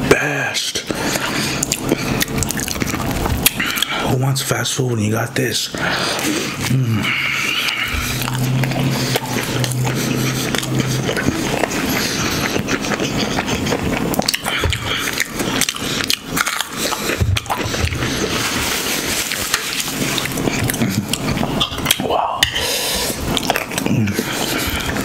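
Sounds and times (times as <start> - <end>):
low steady hum: 0.0 - 25.0
chewing with wet smacks: 0.9 - 4.0, 7.3 - 25.0.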